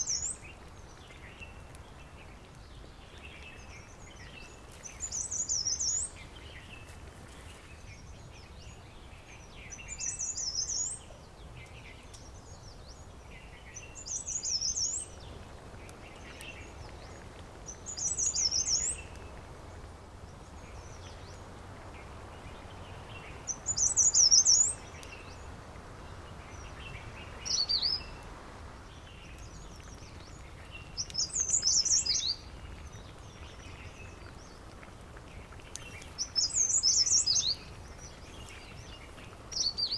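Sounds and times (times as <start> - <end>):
faint background hiss: 0.0 - 39.9
songbird singing: 0.0 - 39.9.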